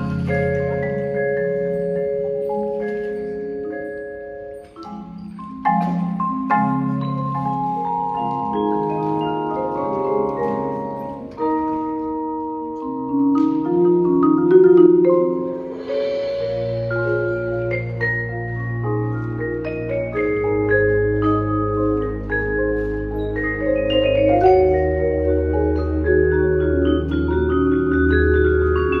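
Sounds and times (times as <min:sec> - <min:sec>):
marimbas and vibraphones playing chords: 0:00.0 - 0:29.0.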